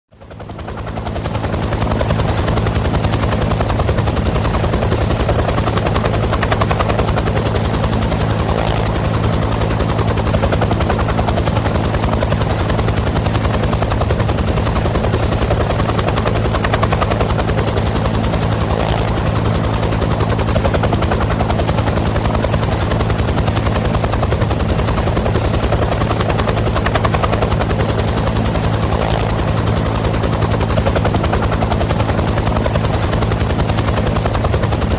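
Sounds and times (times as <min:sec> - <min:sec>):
helicopter engine hum: 0:00.1 - 0:34.9
helicopter rotor chopping: 0:00.2 - 0:34.9.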